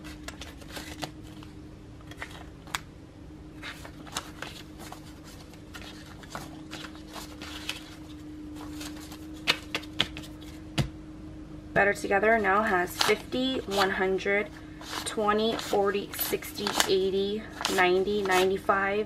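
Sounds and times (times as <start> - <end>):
banknotes rustling and flicking: 0.0 - 2.9, 3.5 - 10.7, 12.3 - 18.9.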